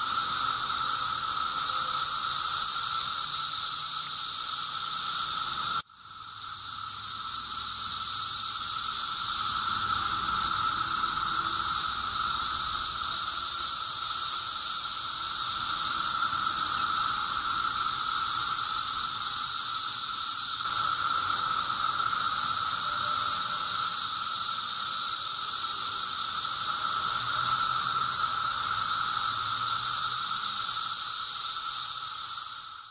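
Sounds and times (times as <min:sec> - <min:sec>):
cicadas chorus: 0:00.0 - 0:32.9.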